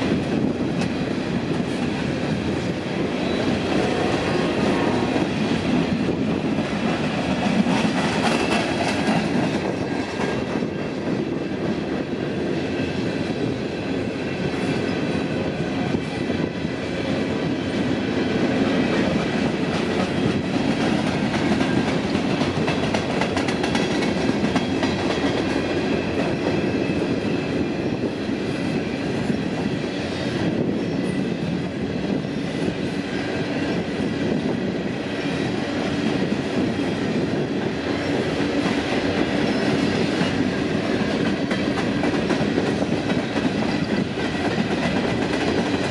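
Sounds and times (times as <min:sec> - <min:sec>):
train cars rumbling: 0:00.0 - 0:45.9.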